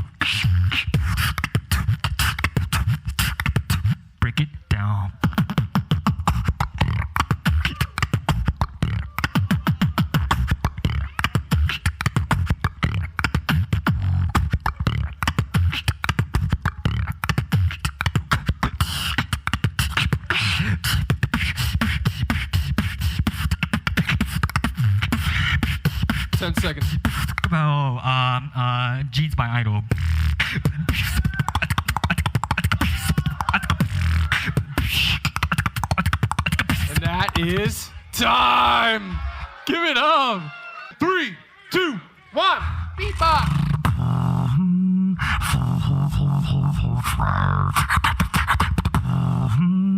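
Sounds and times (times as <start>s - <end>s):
beatbox snare and hi-hat clicks: 0.0s - 4.4s, 5.2s - 27.6s, 29.9s - 37.9s, 43.4s - 44.6s, 45.2s - 49.6s
beatbox bass kicks: 0.0s - 38.0s, 42.8s - 49.9s.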